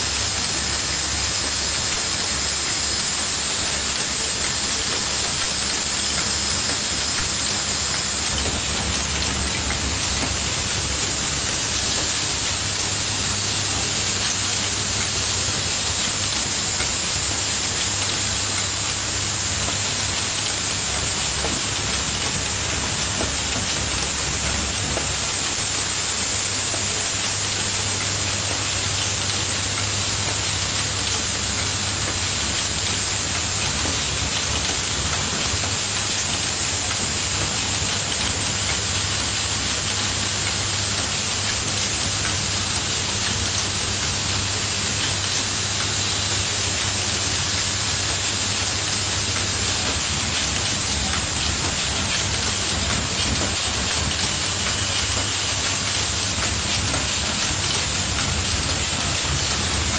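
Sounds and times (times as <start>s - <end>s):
machine rattle and hiss: 0.0s - 59.9s.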